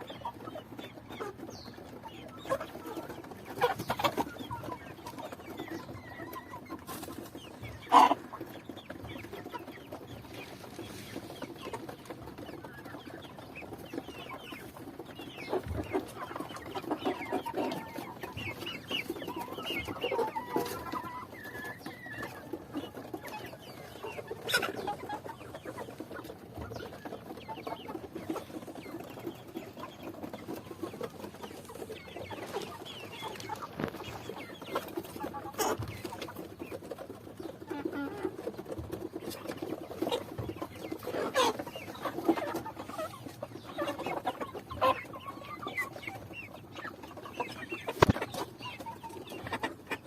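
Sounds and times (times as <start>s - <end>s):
chickens clucking: 0.0s - 50.0s.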